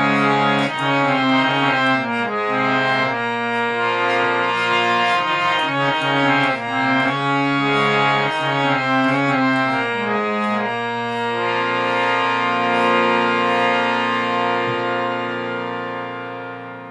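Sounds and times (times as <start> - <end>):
harmonium playing chords: 0.0 - 16.9.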